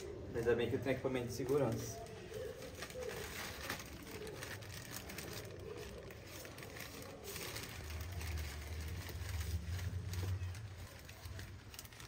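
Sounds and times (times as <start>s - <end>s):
plastic bag crinkling: 0.1s - 12.0s.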